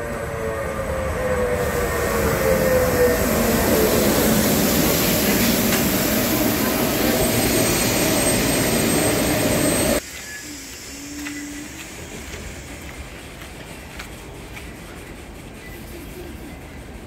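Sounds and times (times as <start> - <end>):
electric locomotive rushing whine: 0.0 - 17.0.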